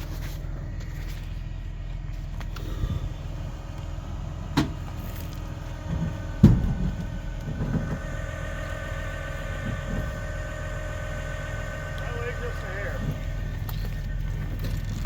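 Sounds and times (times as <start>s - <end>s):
steady whine: 0.0s - 15.0s
truck engine rumbling: 0.0s - 15.0s.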